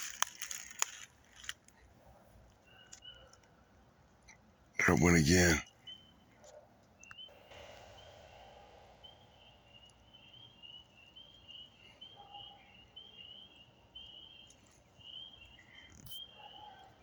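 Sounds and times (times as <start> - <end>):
night animal chirping: 0.0 - 3.6, 4.4 - 17.0.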